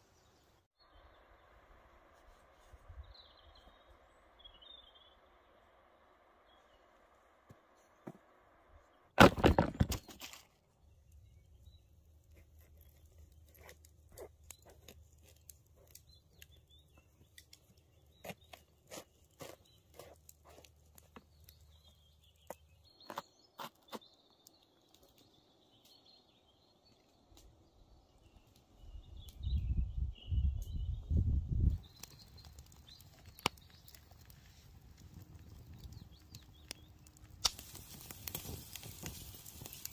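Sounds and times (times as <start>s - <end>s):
faint campfire crackle: 0.0s - 8.9s, 10.1s - 39.9s.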